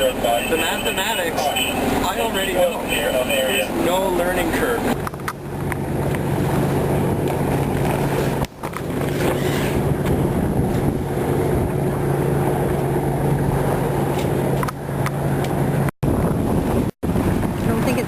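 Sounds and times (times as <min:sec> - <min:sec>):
boat engine humming: 0:00.0 - 0:18.0
water noise: 0:00.0 - 0:18.0
wind: 0:00.0 - 0:18.0.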